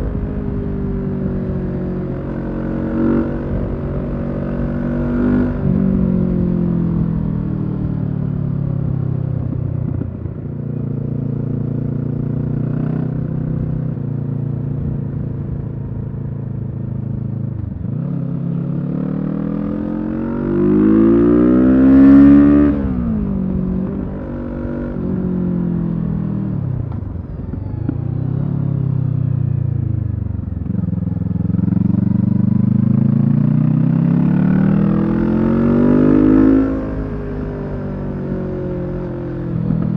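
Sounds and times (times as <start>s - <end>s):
motorcycle engine revving: 0.0s - 15.7s, 17.0s - 39.9s.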